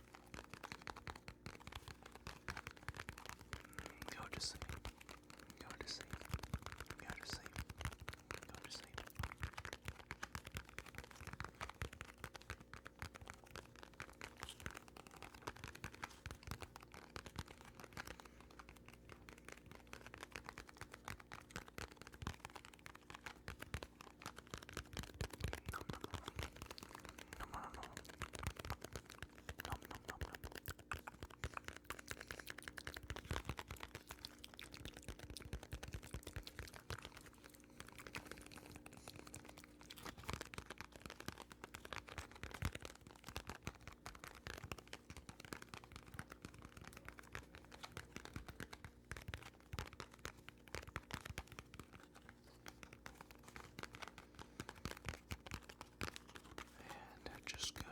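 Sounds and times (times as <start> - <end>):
close tapping and scratching: 0.0 - 57.9
faint steady hum: 0.0 - 57.9.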